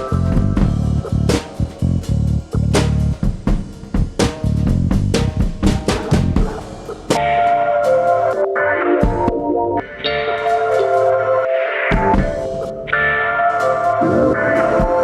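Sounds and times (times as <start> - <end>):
band playing steady beat: 0.0 - 15.0.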